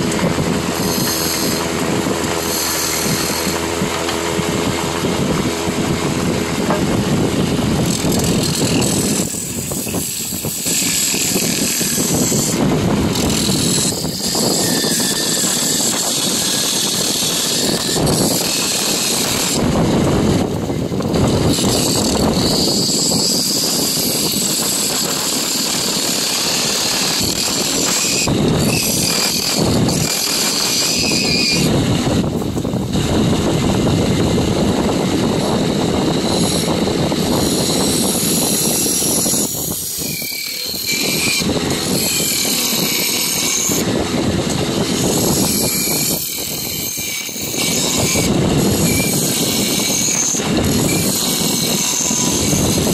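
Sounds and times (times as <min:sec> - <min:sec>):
tool scraping wood: 0:00.0 - 0:19.8, 0:20.4 - 0:33.1, 0:35.4 - 0:52.9
lathe running: 0:00.0 - 0:52.9.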